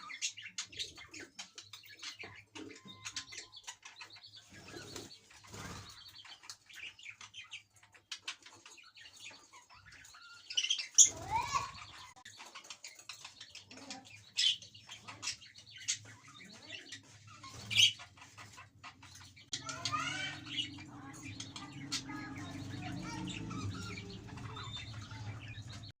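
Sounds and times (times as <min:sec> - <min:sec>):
budgerigars chirping and chattering: 0:00.0 - 0:26.0.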